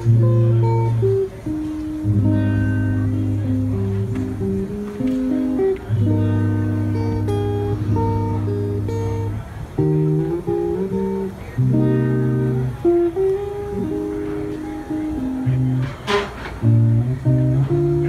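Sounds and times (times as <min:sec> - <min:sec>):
plucked guitar chords: 0:00.0 - 0:18.0.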